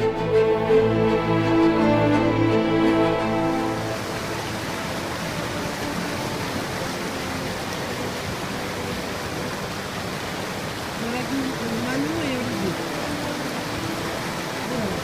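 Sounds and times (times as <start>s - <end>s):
river rapids rushing: 0.0s - 15.0s.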